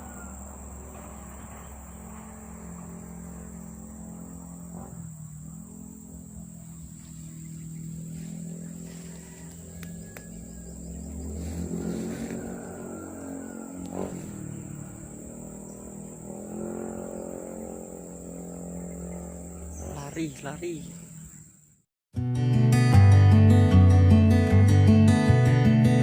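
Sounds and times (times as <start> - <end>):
motor running steadily: 0.0 - 21.6
high-pitched insect drone: 0.0 - 21.8.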